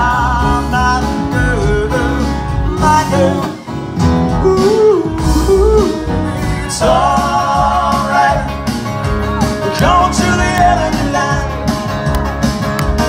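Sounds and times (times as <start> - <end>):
person singing: 0.0 - 11.8
acoustic guitar: 0.0 - 13.0
drum kit: 0.0 - 13.0
electric bass: 0.0 - 13.0.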